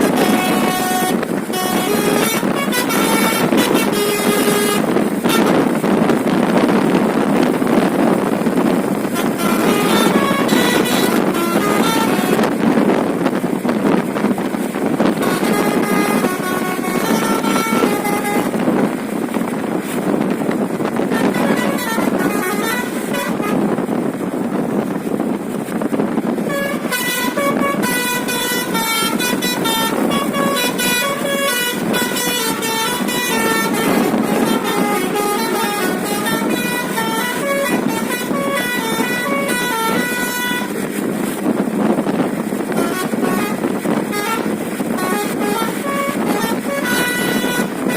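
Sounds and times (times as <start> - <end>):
bus horn playing a melody: 0.0 - 47.9.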